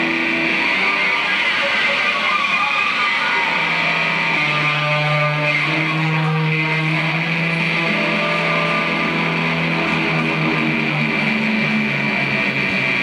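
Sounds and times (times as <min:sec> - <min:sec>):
electric guitar held notes: 0:00.0 - 0:13.0.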